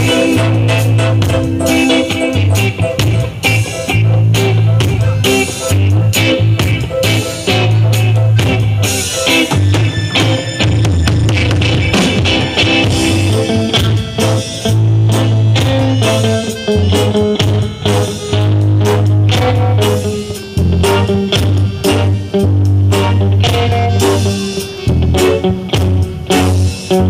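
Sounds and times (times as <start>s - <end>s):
bass guitar notes: 0.0s - 27.0s
drum kit: 0.0s - 27.0s
electric guitar: 0.0s - 27.0s.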